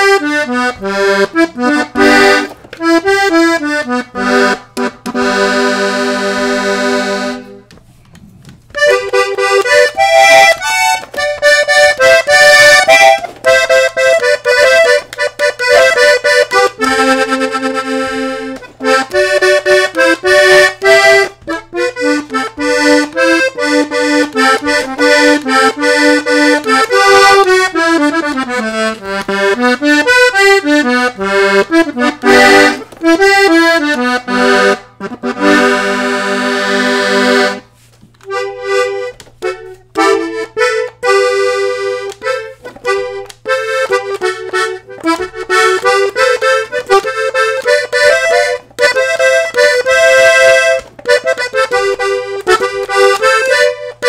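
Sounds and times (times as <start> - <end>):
button accordion playing: 0.0 - 54.0.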